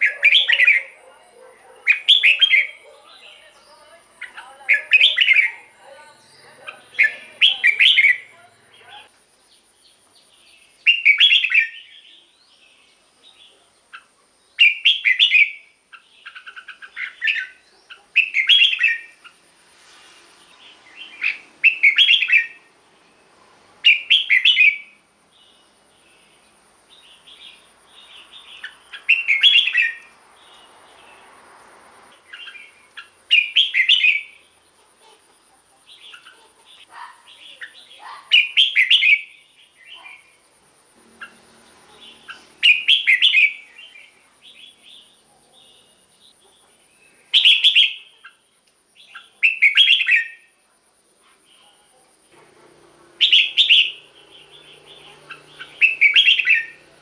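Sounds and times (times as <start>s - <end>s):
bird singing warbled phrases: 0.0s - 19.4s, 20.5s - 31.3s, 32.1s - 40.4s, 41.0s - 50.6s, 53.0s - 57.0s.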